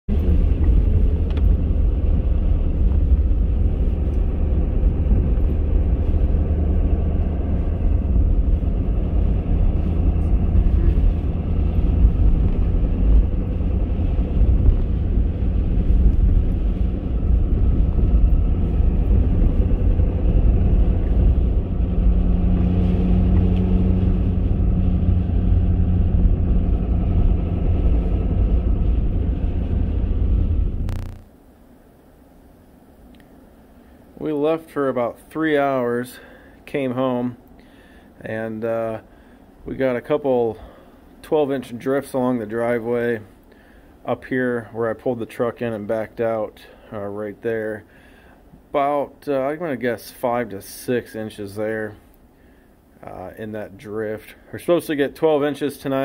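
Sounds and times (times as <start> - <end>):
truck engine and tyre rumble: 0.1 - 56.0.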